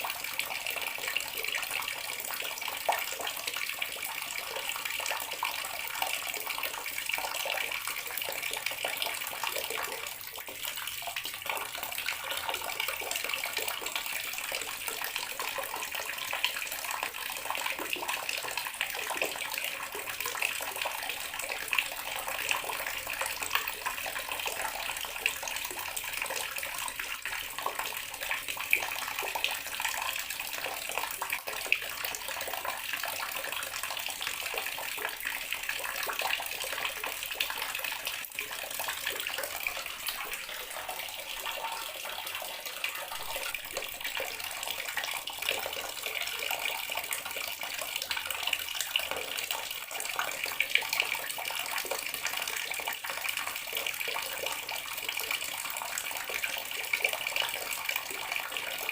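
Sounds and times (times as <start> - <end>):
water tap running and splashing: 4.4 - 58.9.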